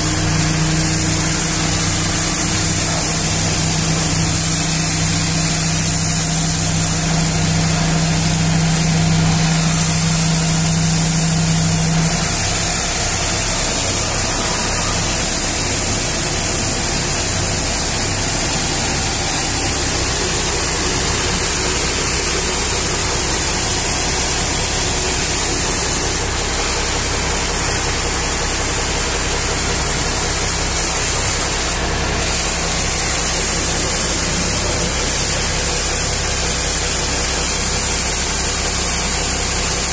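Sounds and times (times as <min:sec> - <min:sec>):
engine running: 0:00.0 - 0:39.9
low pulsing hum: 0:00.0 - 0:39.9
water jet hissing: 0:00.0 - 0:39.9.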